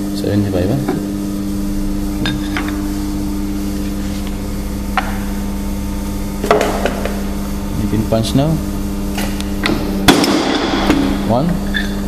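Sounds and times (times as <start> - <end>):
machine motor humming: 0.0 - 12.0.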